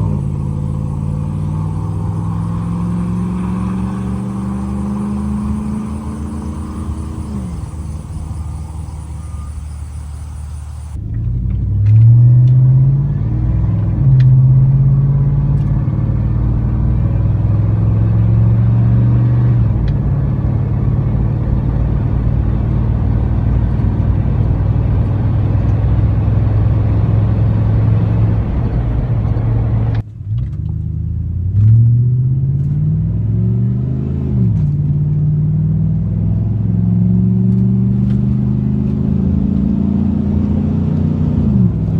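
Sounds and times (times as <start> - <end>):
truck exhaust accelerating: 0.0 - 41.9.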